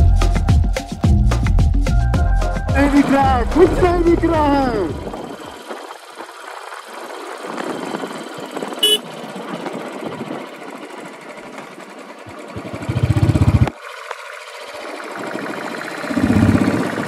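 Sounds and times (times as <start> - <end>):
motorcycle engine running: 2.8 - 17.0
road and wind noise: 2.8 - 17.0.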